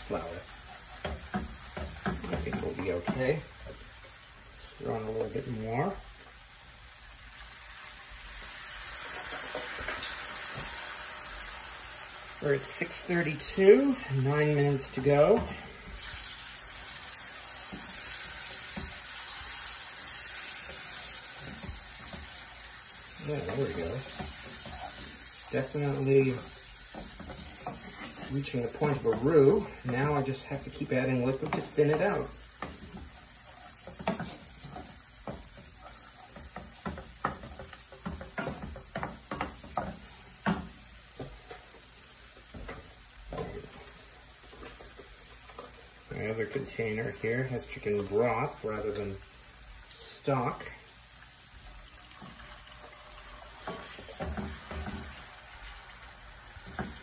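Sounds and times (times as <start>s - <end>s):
gravy sizzling in a skillet: 0.0s - 57.0s.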